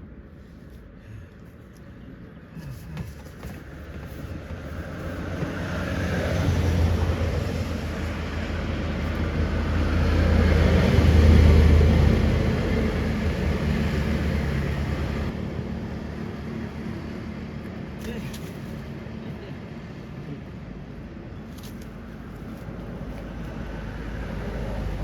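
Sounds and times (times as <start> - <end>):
vehicles passing close: 1.8 - 25.0.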